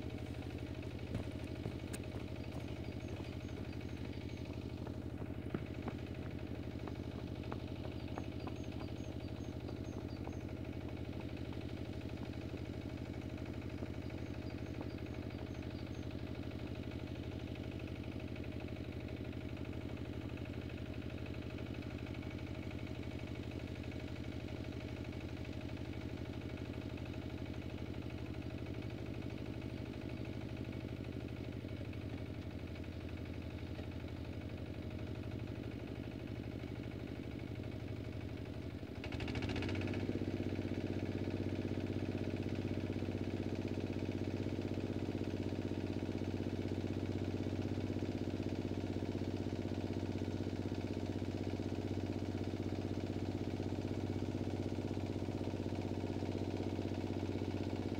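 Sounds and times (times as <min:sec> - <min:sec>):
tractor engine idling: 0:00.0 - 0:57.9.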